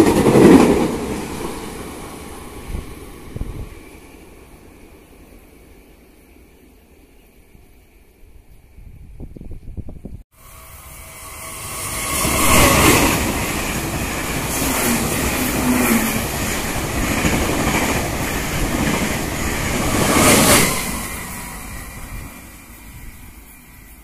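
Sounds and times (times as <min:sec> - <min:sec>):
train passing at speed: 0:00.0 - 0:08.8, 0:10.3 - 0:24.0.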